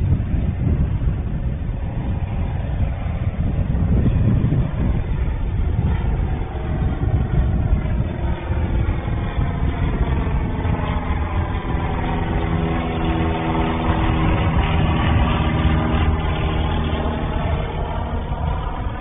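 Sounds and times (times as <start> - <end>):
propeller airplane engine drone: 0.0 - 19.0.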